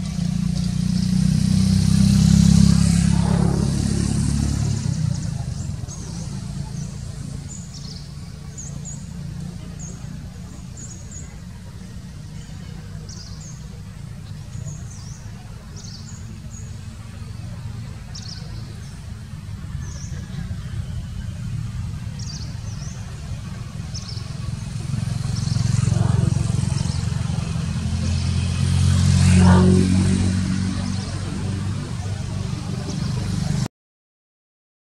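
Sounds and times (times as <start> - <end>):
engine rumbling: 0.0 - 33.7.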